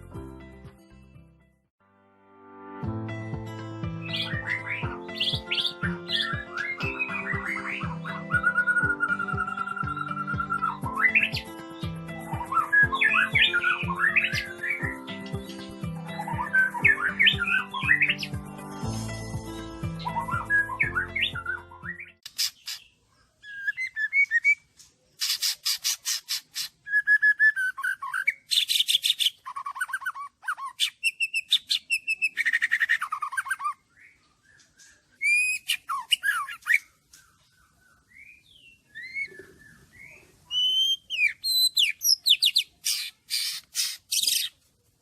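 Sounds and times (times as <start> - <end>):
songbird singing: 3.9 - 44.7.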